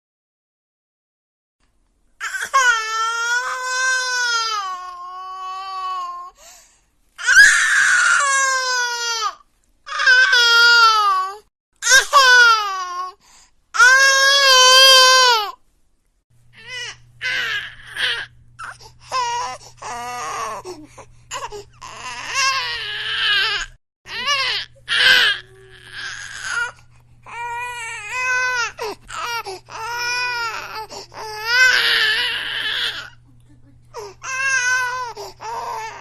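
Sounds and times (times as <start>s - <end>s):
baby crying: 2.2s - 6.3s, 7.2s - 13.2s, 13.8s - 15.6s, 16.6s - 33.2s, 34.0s - 36.0s.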